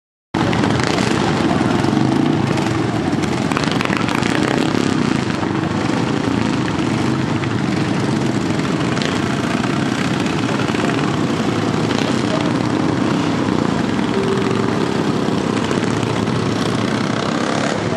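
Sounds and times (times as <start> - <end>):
riding lawnmower engines running hard: 0.4 - 17.9.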